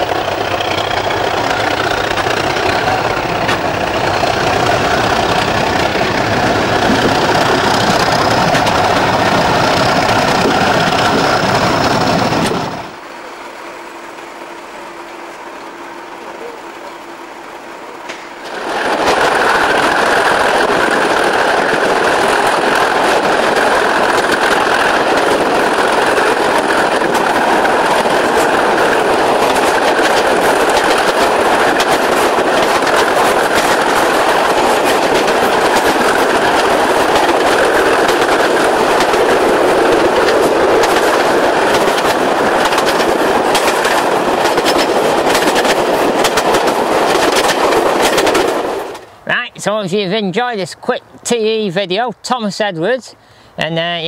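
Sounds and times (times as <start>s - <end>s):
train wheels on rails: 0.0s - 49.5s
diesel locomotive engines: 0.0s - 54.0s.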